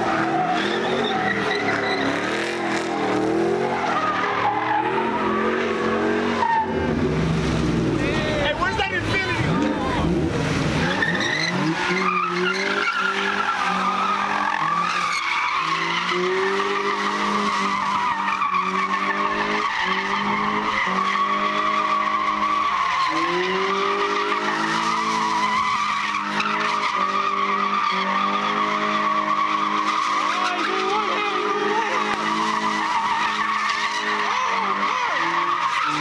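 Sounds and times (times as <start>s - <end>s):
tyres squealing: 0.0s - 6.9s, 7.9s - 36.0s
car engine revving: 0.0s - 36.0s.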